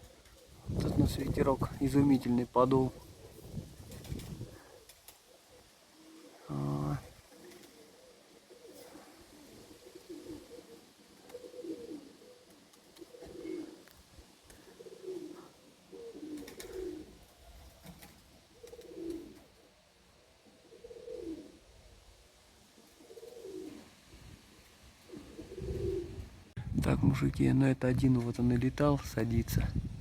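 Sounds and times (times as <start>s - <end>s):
pigeons cooing: 0.0s - 26.5s.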